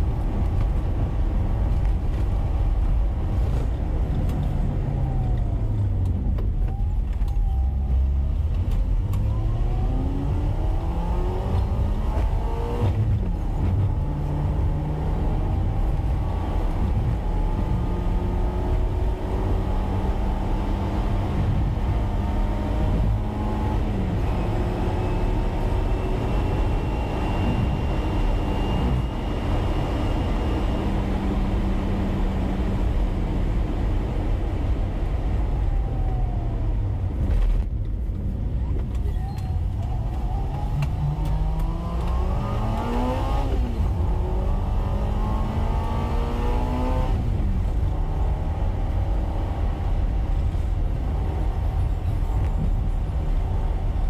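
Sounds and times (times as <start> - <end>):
car engine hum: 0.0 - 54.0
road rumble: 0.0 - 54.0.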